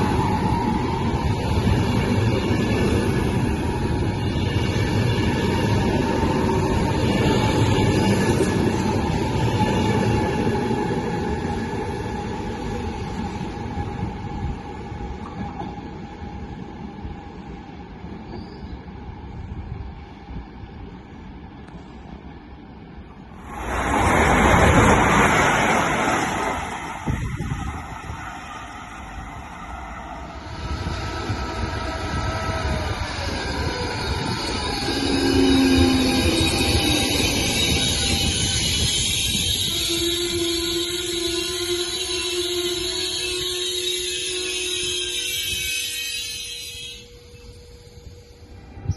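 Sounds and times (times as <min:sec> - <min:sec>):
electric train rumble and whine: 0:00.0 - 0:48.9.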